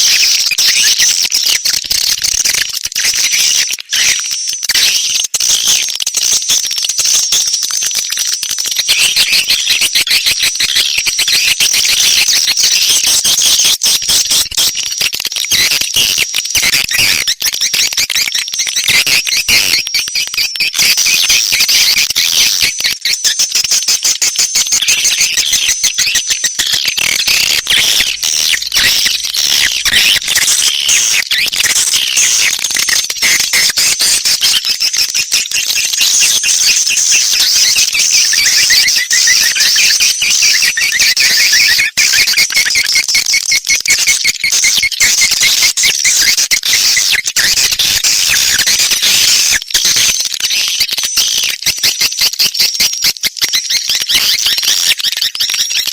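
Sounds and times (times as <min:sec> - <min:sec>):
swiftlets chittering and twittering: 0:00.0 - 0:55.9.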